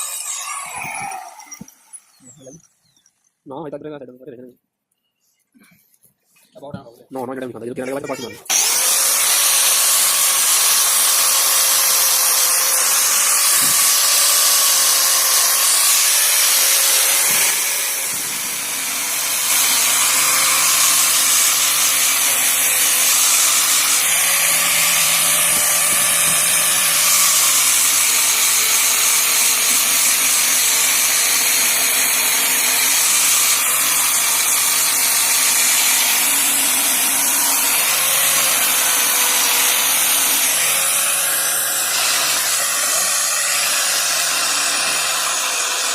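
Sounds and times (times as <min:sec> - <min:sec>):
angle grinder polishing metal: 0:00.0 - 0:02.6, 0:08.0 - 0:45.9.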